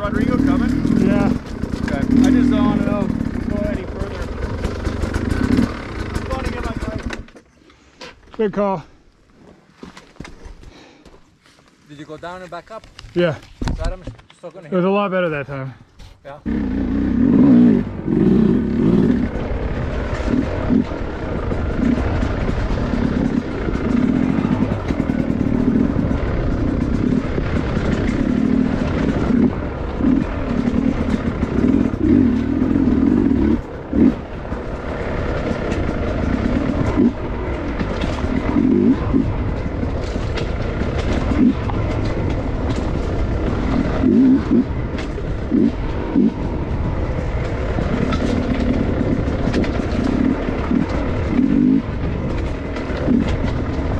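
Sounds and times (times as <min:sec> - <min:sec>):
dirt bike engine revving: 0:00.0 - 0:07.3, 0:16.4 - 0:53.9.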